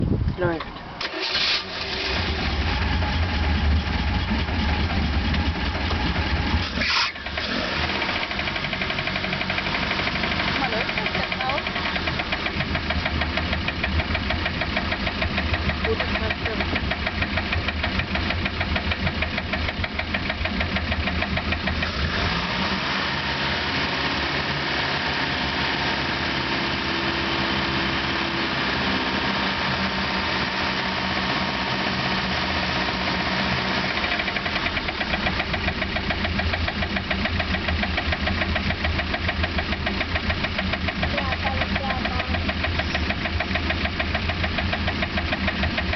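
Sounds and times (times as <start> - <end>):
metallic engine rattle: 0.0 - 22.6, 31.1 - 45.9
boat engine running: 1.9 - 45.9.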